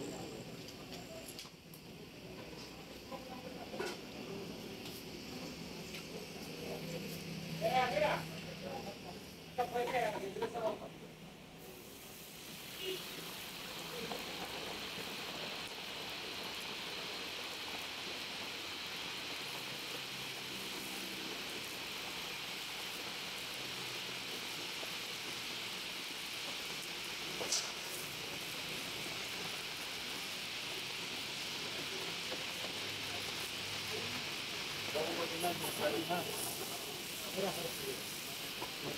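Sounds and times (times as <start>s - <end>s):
meat sizzling in hot oil: 0.0s - 10.7s, 11.3s - 38.9s.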